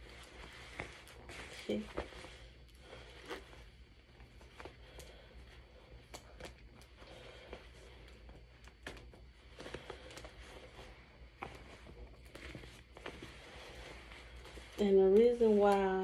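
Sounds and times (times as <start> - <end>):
fabric rustling: 0.0 - 16.0
steady low hum: 0.0 - 16.0.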